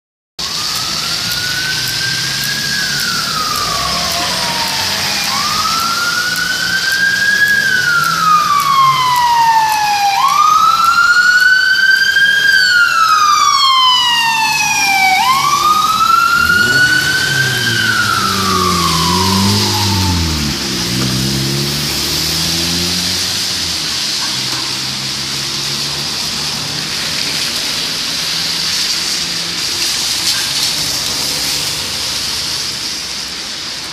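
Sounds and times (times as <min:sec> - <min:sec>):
car engine revving: 0:00.4 - 0:11.1, 0:12.4 - 0:33.4
ambulance siren wailing: 0:00.4 - 0:33.4
traffic hiss: 0:00.4 - 0:33.9.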